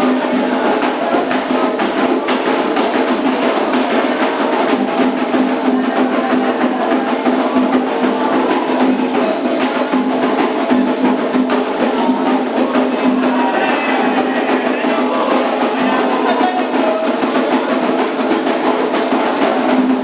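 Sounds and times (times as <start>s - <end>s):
hand drums fast rhythm: 0.0s - 20.0s
struck bell or woodblock: 0.0s - 20.0s.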